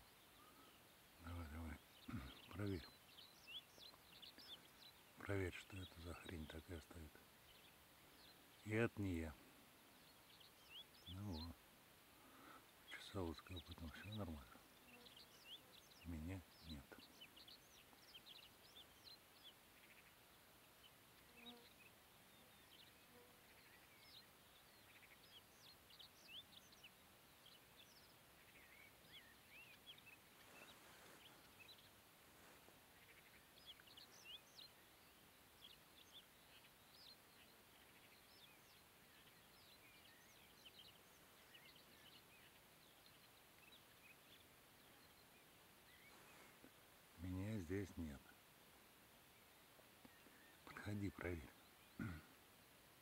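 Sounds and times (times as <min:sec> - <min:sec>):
distant bird chirps: 0:00.0 - 0:53.0
microphone hiss: 0:00.0 - 0:53.0.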